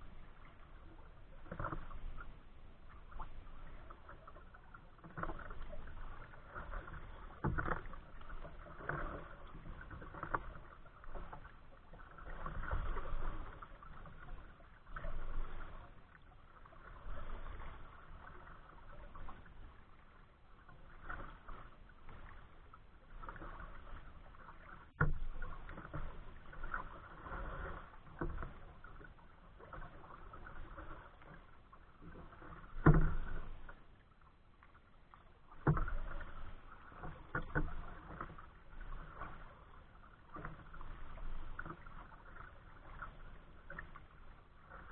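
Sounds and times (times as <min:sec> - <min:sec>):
water sloshing against kayak hull: 0:00.0 - 0:44.9.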